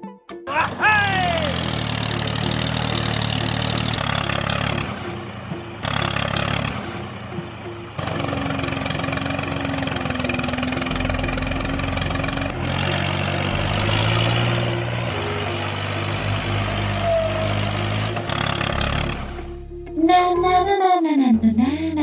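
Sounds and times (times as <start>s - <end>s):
engine running: 0.6s - 22.0s.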